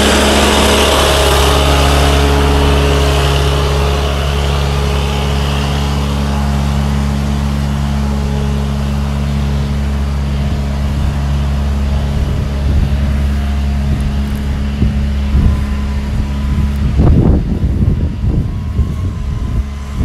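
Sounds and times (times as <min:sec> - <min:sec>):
rough low buffeting: 0:00.0 - 0:20.0
truck engine humming: 0:00.0 - 0:20.0.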